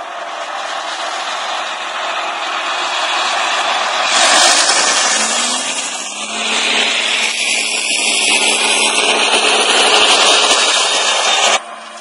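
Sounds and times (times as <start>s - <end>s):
forage harvester running: 0.0s - 12.0s.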